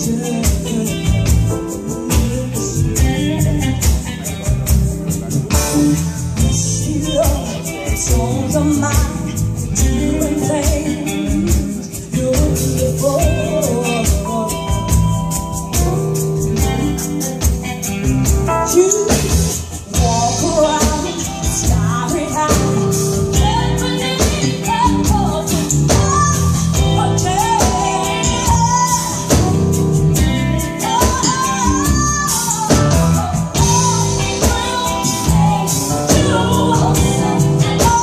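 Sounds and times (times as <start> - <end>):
drum kit: 0.0 - 38.0
electric guitar: 0.0 - 38.0
live band playing: 0.0 - 38.0.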